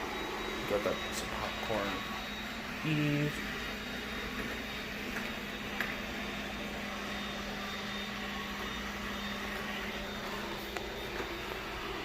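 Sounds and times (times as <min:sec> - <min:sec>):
robot vacuum droning: 0:00.0 - 0:12.0.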